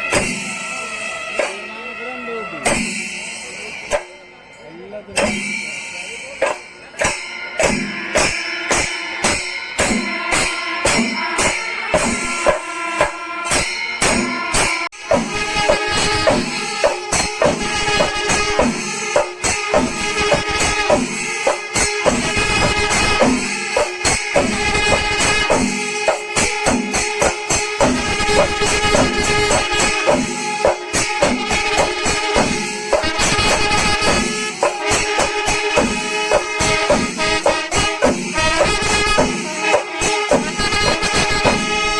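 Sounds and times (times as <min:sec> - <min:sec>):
hand cymbals clashing: 0:00.0 - 0:01.8, 0:02.6 - 0:41.9
drums beating: 0:00.0 - 0:01.9, 0:02.6 - 0:04.2, 0:05.2 - 0:41.9
held tones over beat: 0:05.2 - 0:41.9.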